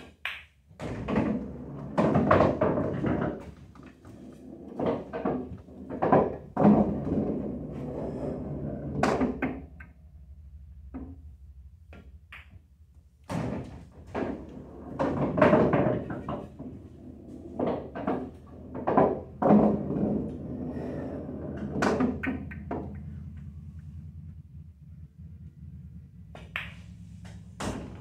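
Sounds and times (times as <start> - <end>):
pool ball rolling through return: 0.8 - 11.3, 13.3 - 28.0
steady low hum: 5.5 - 28.0.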